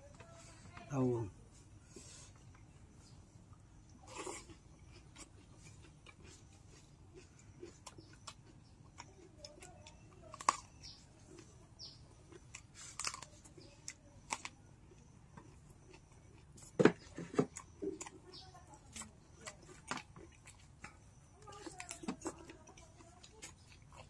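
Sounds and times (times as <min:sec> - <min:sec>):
person chewing food: 0:01.8 - 0:24.0.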